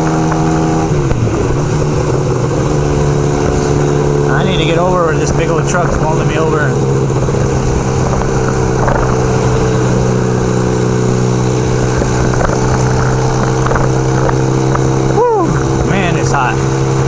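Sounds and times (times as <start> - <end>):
motorcycle engine running: 0.0 - 17.0
wind rush: 0.0 - 17.0.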